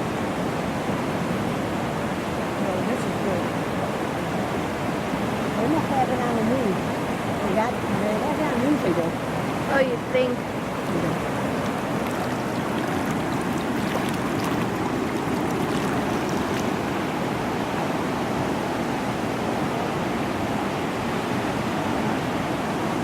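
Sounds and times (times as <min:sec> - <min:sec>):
rushing floodwater: 0:00.0 - 0:23.0.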